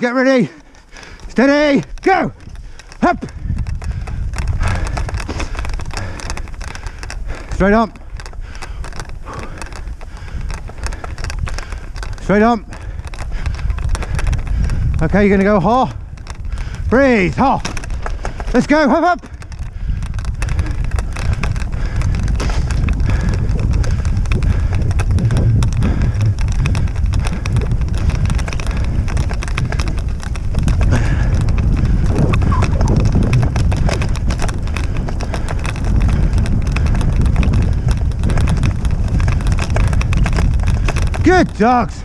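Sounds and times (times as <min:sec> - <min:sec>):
wind rumble on microphone: 0:00.0 - 0:42.0
dog rig rattling over grass: 0:00.8 - 0:42.0.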